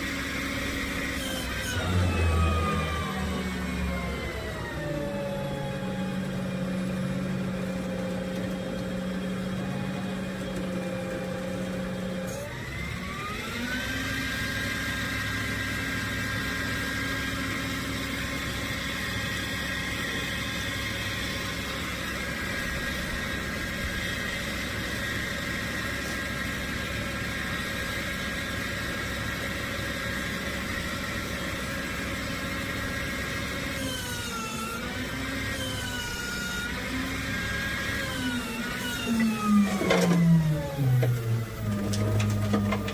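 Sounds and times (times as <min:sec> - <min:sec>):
truck engine running: 0:00.0 - 0:12.2, 0:13.9 - 0:42.9.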